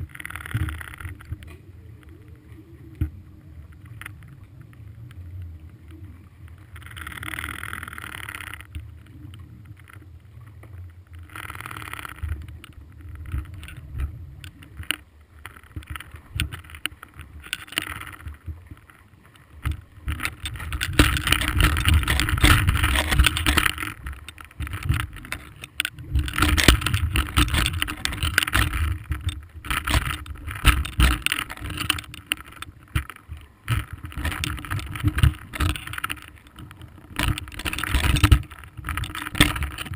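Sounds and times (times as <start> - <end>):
faint steady hum: 0.0 - 39.9
underwater knocks and clicks: 0.0 - 39.9
underwater rumble of moving water: 0.0 - 39.9.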